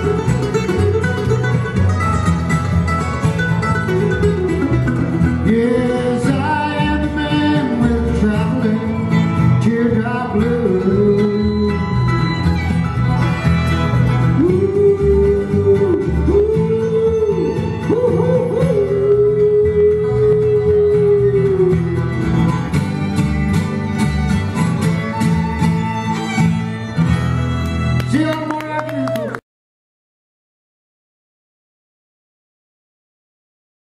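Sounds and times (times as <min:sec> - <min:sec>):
bluegrass band playing: 0:00.0 - 0:28.6.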